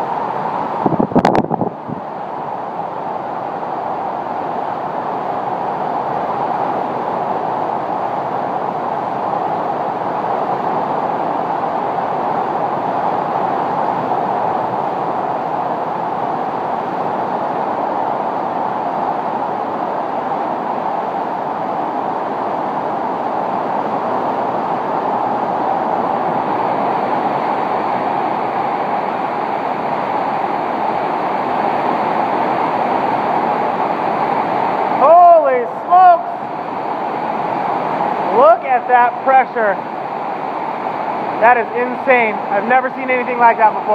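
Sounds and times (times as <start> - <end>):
heavy driving rain: 0.0 - 43.9
hurricane-force wind: 0.0 - 43.9.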